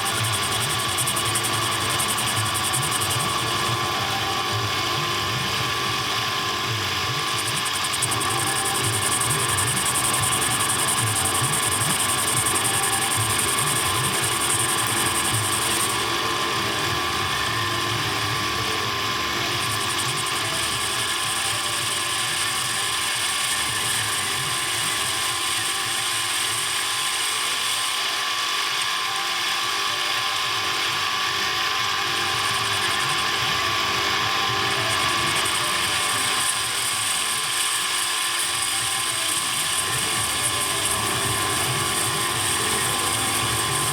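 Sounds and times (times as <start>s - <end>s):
workshop machine whirring: 0.0s - 43.9s.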